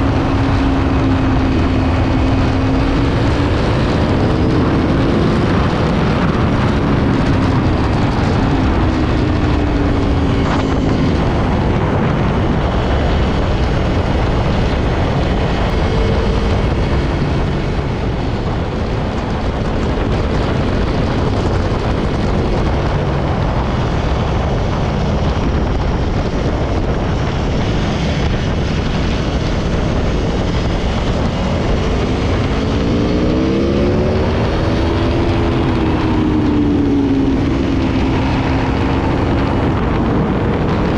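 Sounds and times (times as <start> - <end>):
motorcycle engine under way: 0.0 - 40.9
wind rush over microphone: 0.0 - 40.9.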